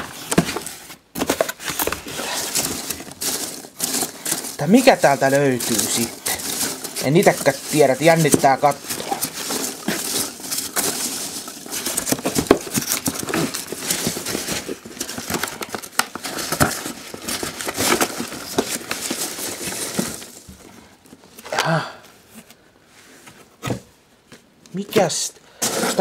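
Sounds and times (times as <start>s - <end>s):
packing peanuts rustling and squeaking: 0.0s - 21.6s, 25.0s - 26.0s.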